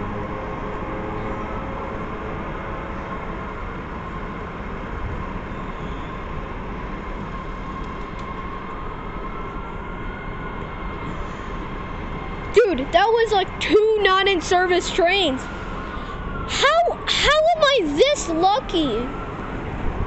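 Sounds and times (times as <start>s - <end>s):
thin steady whine: 0.0s - 20.0s.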